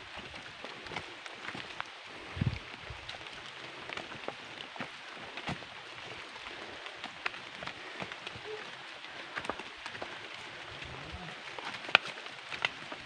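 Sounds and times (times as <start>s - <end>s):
footsteps on leaves and twigs: 0.0s - 13.0s.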